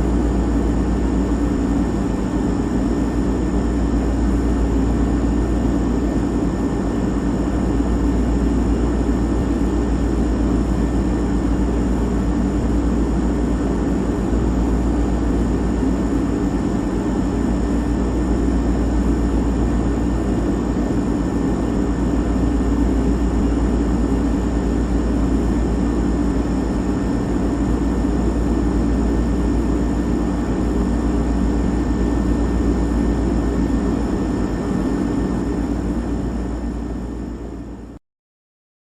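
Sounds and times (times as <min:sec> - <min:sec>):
refrigerator hum: 0:00.0 - 0:38.0.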